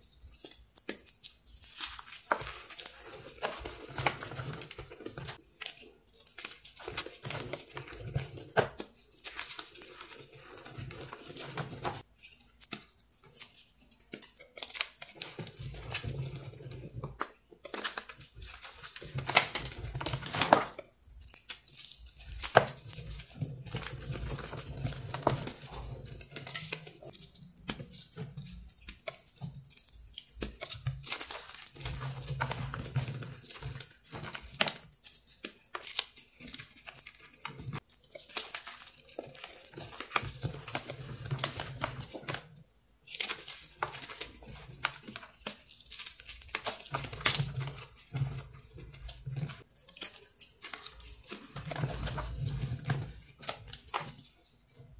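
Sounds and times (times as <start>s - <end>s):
chalk crunching and crumbling: 0.0s - 54.9s.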